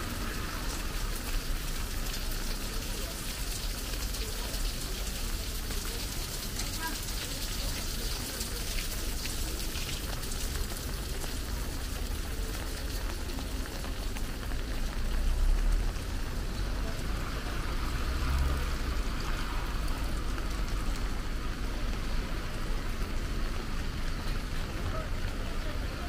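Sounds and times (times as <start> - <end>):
heavy rain on street: 0.0 - 26.0.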